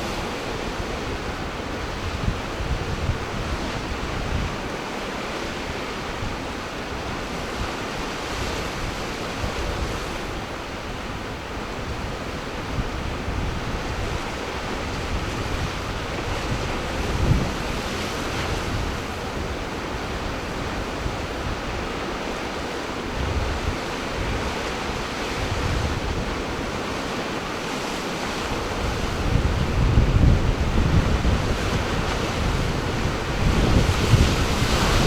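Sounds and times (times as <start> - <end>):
wind buffeting microphone: 0.0 - 4.8, 11.1 - 35.0
ocean surf washing: 0.0 - 35.0.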